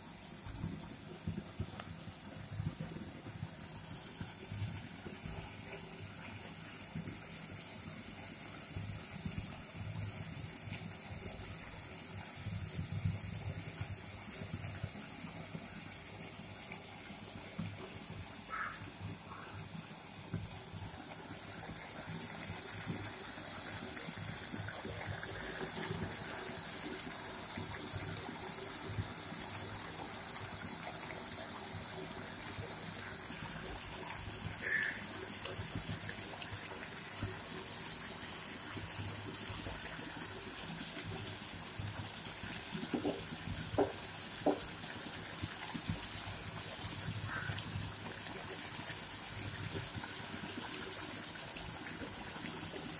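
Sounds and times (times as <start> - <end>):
tomatoes sizzling in oil: 0.0 - 52.9.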